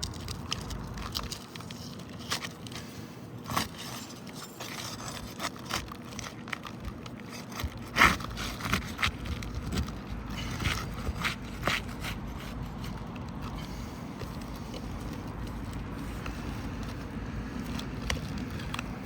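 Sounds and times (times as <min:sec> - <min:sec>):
hand tools scraping shingles: 0:00.1 - 0:19.0.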